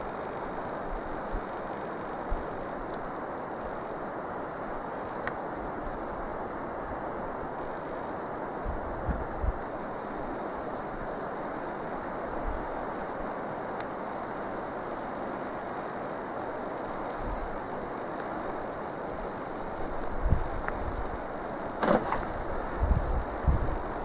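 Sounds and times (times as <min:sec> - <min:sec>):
wind through pine trees: 0:00.0 - 0:24.0.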